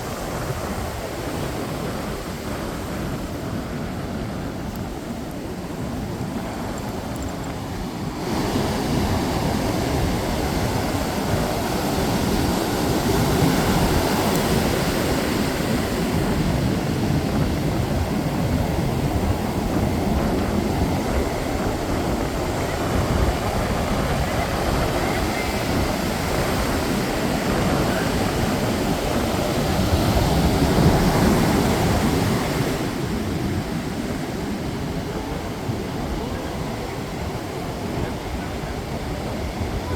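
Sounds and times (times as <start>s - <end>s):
ocean surf rushing: 0.0s - 39.9s
wind on microphone: 0.0s - 39.9s.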